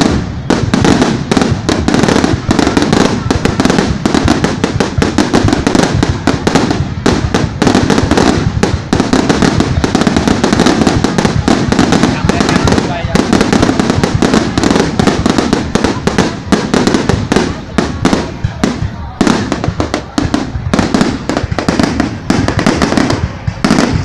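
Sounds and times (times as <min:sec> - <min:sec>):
fireworks exploding: 0:00.0 - 0:24.0.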